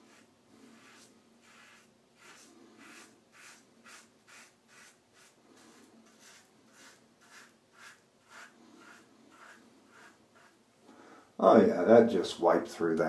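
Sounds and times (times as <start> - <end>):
razor scraping stubble: 0.0 - 10.6.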